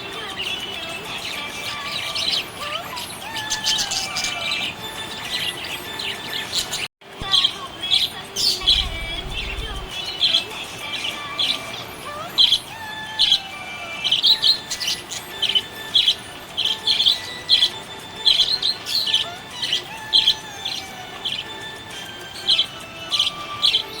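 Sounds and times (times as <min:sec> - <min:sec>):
budgerigars chirping: 0:00.2 - 0:24.0.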